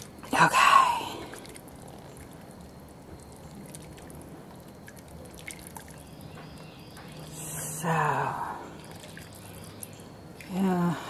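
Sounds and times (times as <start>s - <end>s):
water dripping and splashing: 0.0s - 11.0s.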